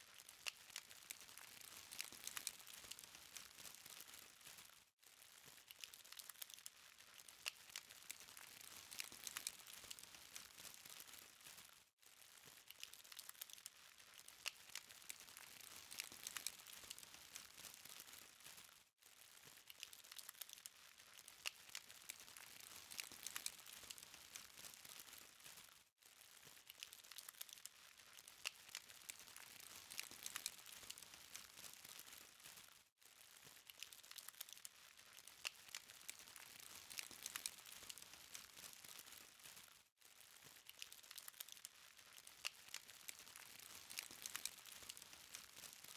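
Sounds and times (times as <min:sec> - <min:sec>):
charcoal fire crackling: 0:00.0 - 0:45.9.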